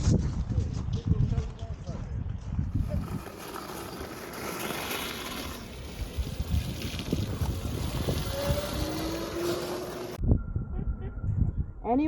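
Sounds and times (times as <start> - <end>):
wind buffeting microphone: 0.0 - 4.6, 5.4 - 12.0.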